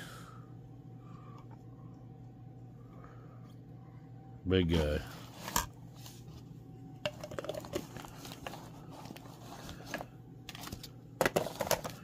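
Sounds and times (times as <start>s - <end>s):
faint steady low hum: 0.0s - 12.0s.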